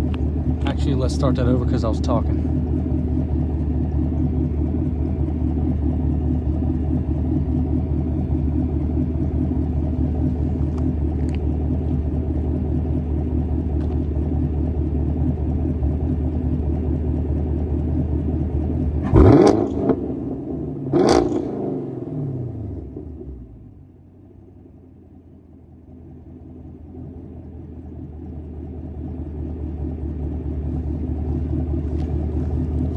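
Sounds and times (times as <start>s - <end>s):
car engine idling and revving: 0.0s - 32.9s.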